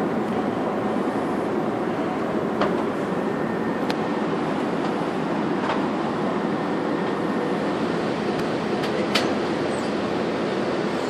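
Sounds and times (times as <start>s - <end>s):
airplane cabin air rush: 0.0s - 11.0s.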